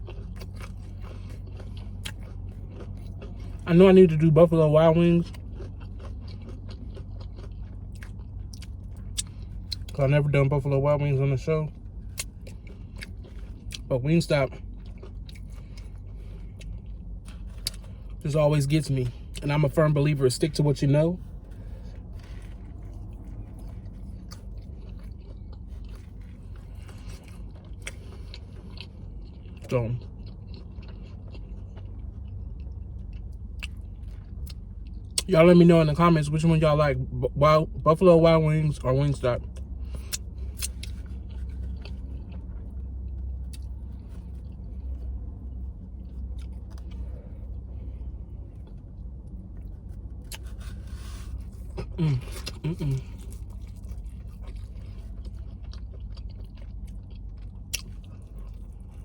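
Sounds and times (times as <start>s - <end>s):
person chewing food: 0.0s - 10.4s, 11.0s - 35.5s, 39.4s - 59.0s
low hum: 0.0s - 59.0s.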